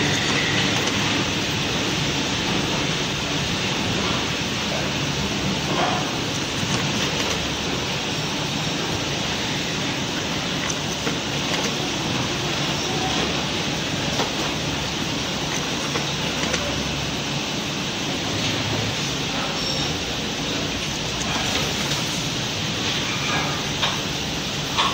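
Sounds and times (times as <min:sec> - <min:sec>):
workshop machinery hiss and hum: 0:00.0 - 0:24.9.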